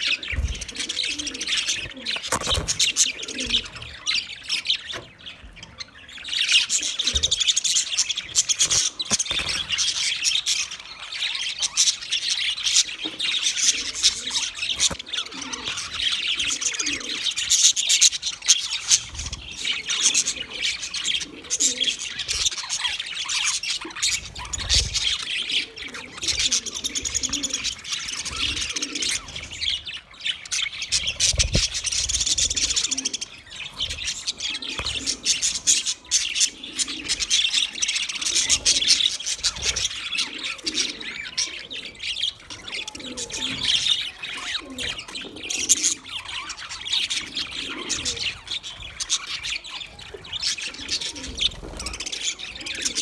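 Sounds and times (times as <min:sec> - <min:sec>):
budgerigars chirping and warbling: 0:00.0 - 0:53.0.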